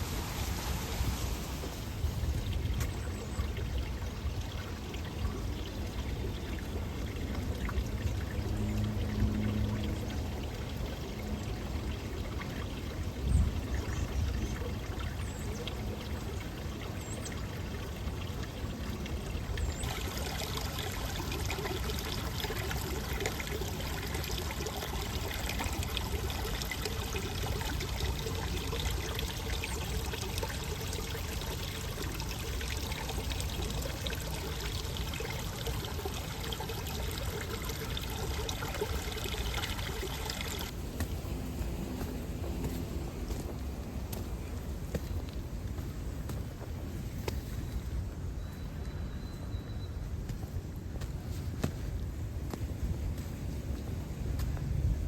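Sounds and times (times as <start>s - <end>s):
water trickling and pouring: 0.0s - 49.6s.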